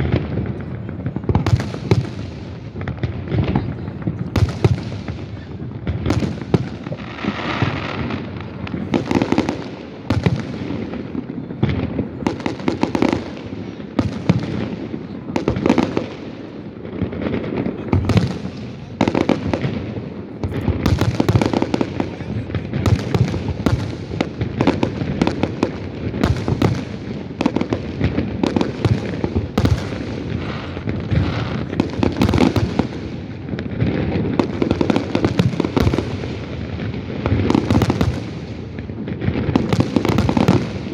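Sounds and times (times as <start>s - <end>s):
fireworks cracks and booms: 0.0s - 40.9s.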